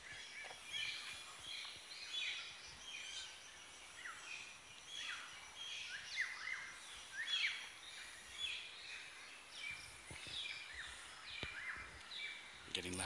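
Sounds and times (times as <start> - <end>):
jungle birds calling: 0.0 - 13.0.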